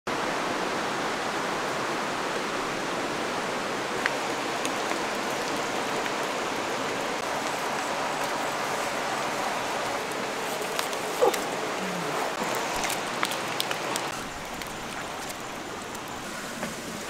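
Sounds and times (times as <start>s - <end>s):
flowing water rushing: 0.1s - 17.0s.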